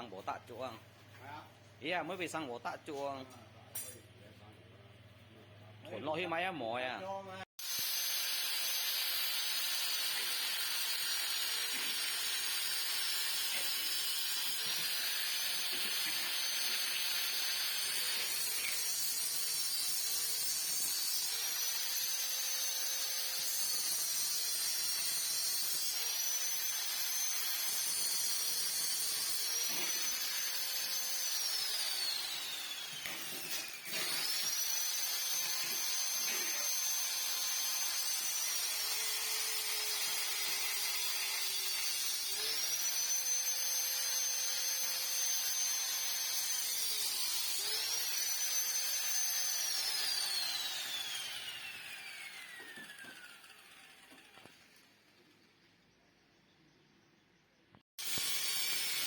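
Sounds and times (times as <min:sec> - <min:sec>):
high-speed power tool whining: 0:07.6 - 0:54.8, 0:58.0 - 0:59.0.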